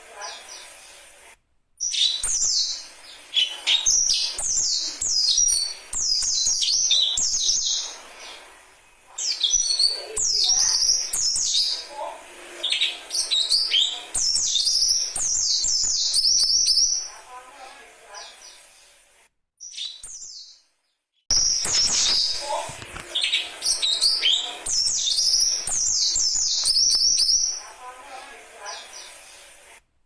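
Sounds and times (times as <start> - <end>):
birds chirping: 0.0 - 18.9, 19.6 - 29.6.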